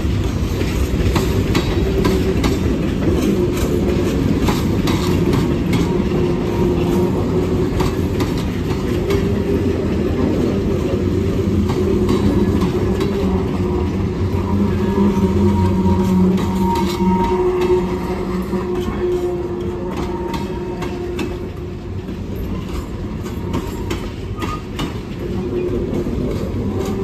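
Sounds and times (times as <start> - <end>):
train wheels rumbling on rails: 0.0 - 27.0
wheels clanking over rail joints: 0.0 - 27.0.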